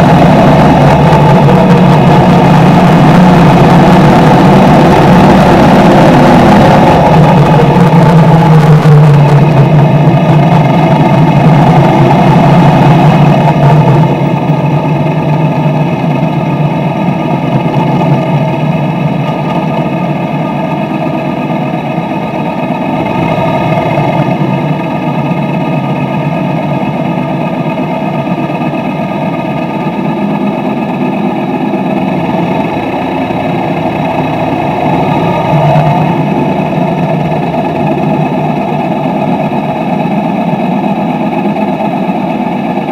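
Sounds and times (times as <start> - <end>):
motorcycle engine running: 0.0 - 42.9
road and traffic noise: 0.0 - 42.9.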